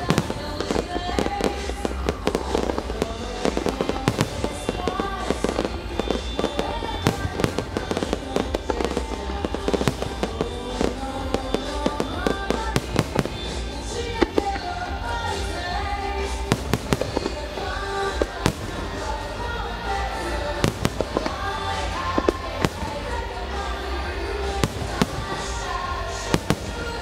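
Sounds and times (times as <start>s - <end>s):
fireworks bursting: 0.0s - 27.0s
music: 0.0s - 27.0s.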